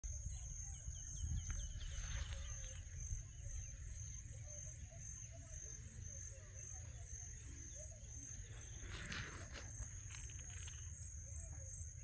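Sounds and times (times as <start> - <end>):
insects chirping: 0.1 - 12.0.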